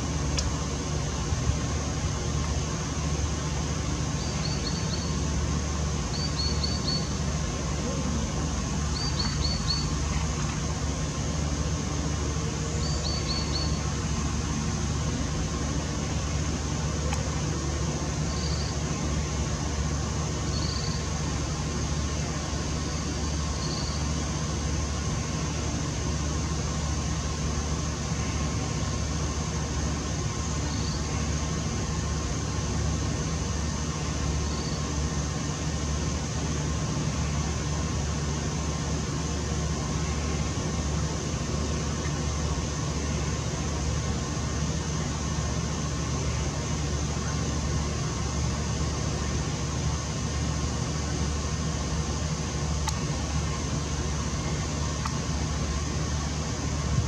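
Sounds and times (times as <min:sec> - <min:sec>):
low night background rumble: 0:00.0 - 0:57.0.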